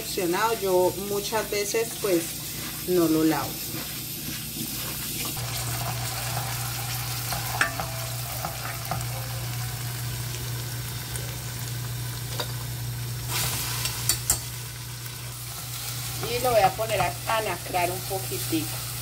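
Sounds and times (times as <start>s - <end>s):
onion sizzling in oil: 0.0s - 19.0s.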